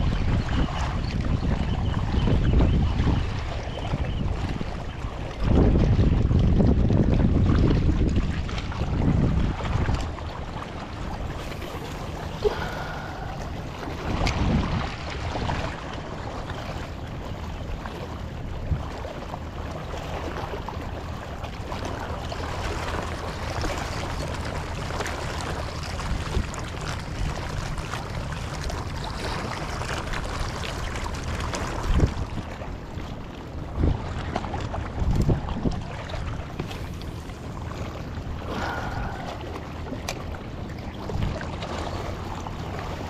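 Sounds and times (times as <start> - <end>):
wind on microphone: 0.0 - 19.2, 21.8 - 43.0
waves lapping against rocks: 0.0 - 43.0.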